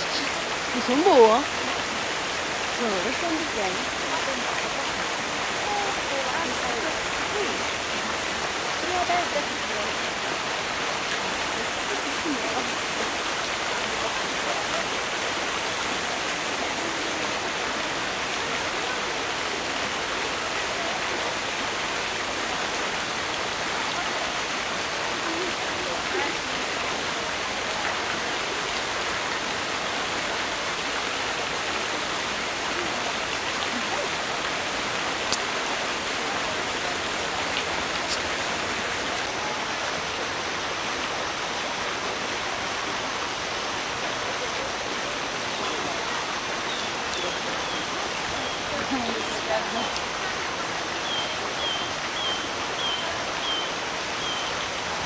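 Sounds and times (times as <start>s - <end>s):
waterfall splashing into pool: 0.0s - 55.0s.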